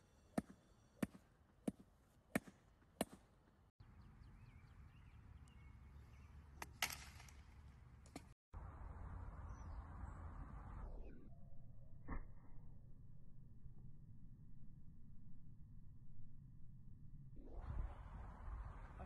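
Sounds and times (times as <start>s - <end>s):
faint outdoor ambience: 0.0s - 12.0s, 12.6s - 19.0s.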